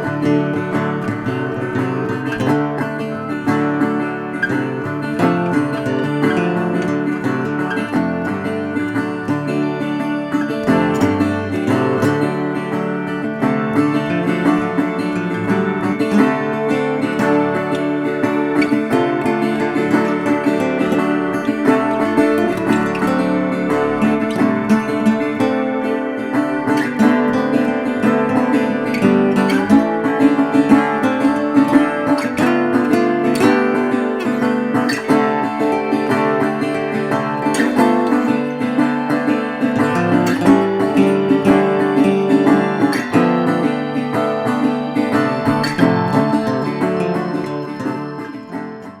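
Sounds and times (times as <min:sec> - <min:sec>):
acoustic guitar music: 0:00.0 - 0:49.0.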